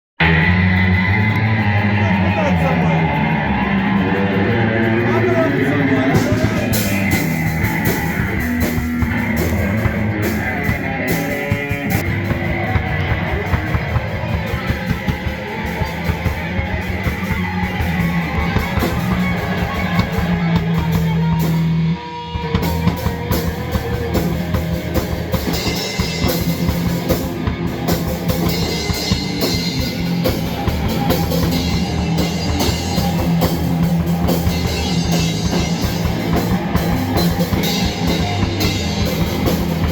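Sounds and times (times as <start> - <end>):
loud rock music: 0.2 - 39.9.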